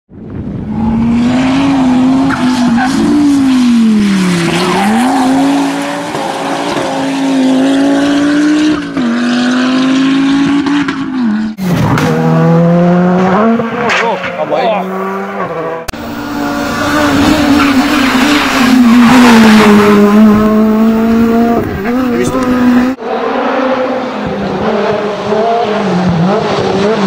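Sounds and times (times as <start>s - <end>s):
rally car engine at full throttle: 0.2s - 27.0s.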